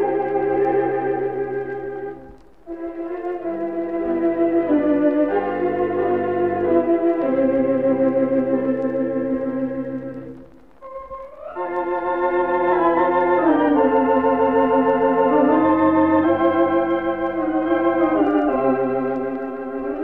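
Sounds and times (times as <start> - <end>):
theatre organ playing slow ballad: 0.0 - 20.0.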